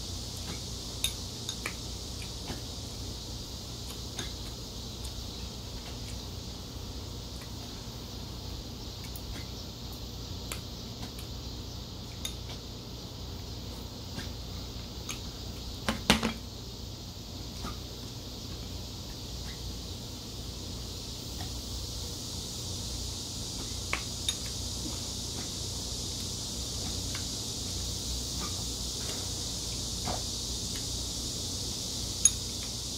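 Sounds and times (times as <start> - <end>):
faint hiss: 0.0 - 32.9.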